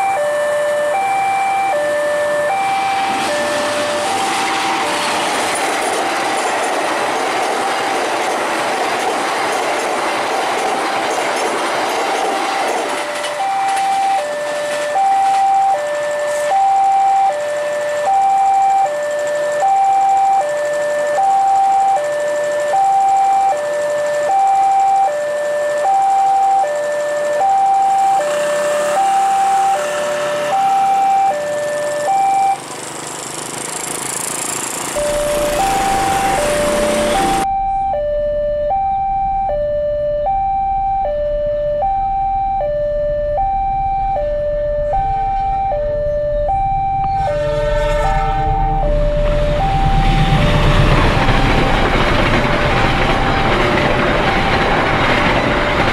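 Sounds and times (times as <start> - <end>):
level crossing two-tone alarm: 0.0 - 7.8, 11.3 - 32.7, 34.2 - 55.9
train running noise: 0.0 - 37.5, 43.6 - 55.9.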